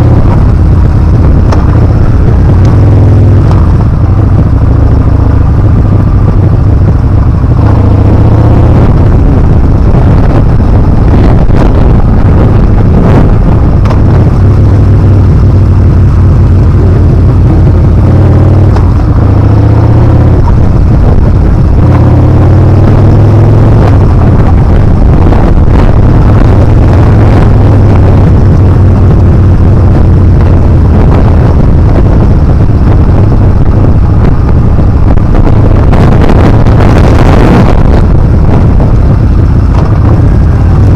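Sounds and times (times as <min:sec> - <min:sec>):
motorcycle engine revving: 0:00.0 - 0:40.9
wind rush on microphone: 0:00.0 - 0:40.9.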